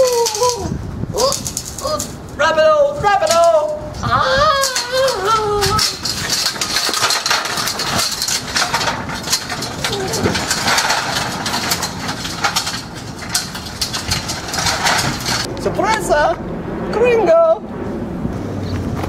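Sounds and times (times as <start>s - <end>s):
metal wheels rattling on pavement: 0.0s - 16.3s.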